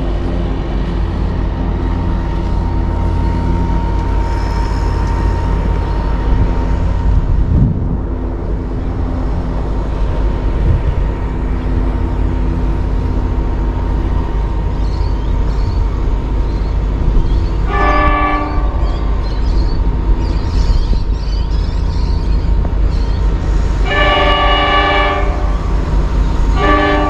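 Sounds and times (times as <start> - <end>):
constant high hum: 0.0 - 27.0
engine drone: 0.0 - 27.0.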